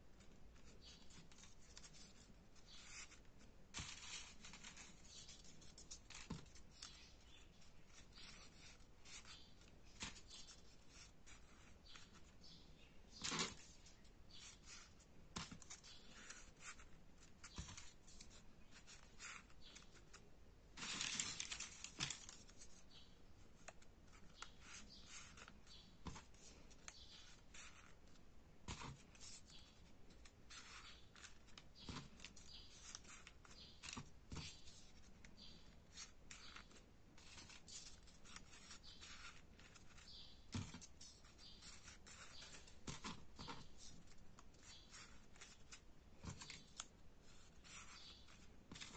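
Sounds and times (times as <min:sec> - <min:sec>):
paper rustling and crinkling: 0:00.6 - 0:12.3, 0:13.1 - 0:20.2, 0:20.8 - 0:23.0, 0:23.6 - 0:48.9.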